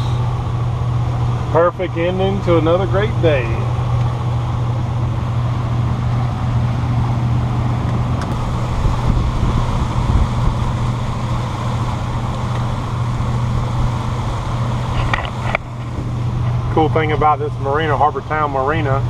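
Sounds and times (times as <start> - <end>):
boat engines droning: 0.0 - 19.0
wind: 0.0 - 19.0.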